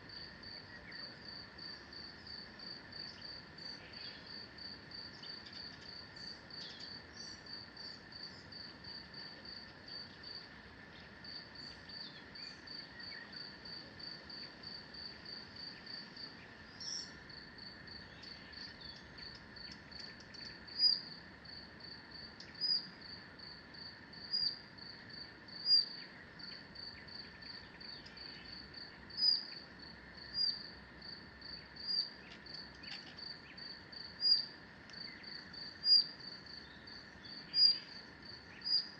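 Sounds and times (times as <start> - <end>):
faint steady background drone: 0.0 - 38.9.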